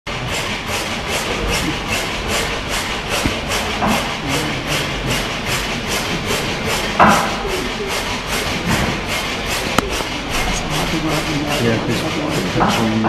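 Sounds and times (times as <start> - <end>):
stationary gas engine clattering: 0.1 - 13.0.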